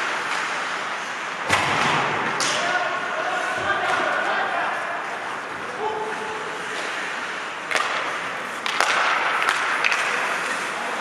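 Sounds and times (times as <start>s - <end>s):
echoing rink noise: 0.0s - 11.0s
hockey sticks hitting puck: 0.0s - 11.0s.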